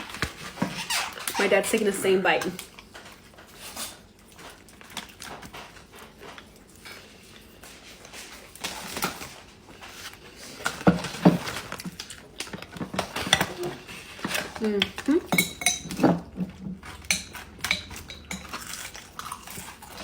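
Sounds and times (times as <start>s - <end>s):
person chewing food: 2.6s - 20.0s.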